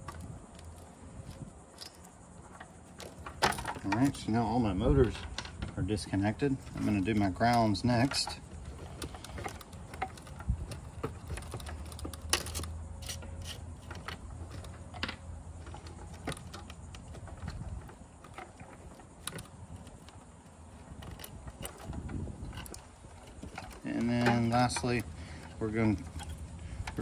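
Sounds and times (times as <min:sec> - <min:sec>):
wires clicking and rattling: 0:00.0 - 0:27.0.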